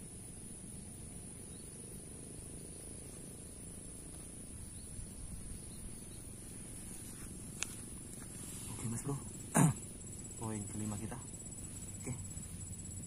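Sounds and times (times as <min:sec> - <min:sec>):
high-pitched insect trill: 0:00.0 - 0:13.0
low rumbling background noise: 0:00.0 - 0:13.0.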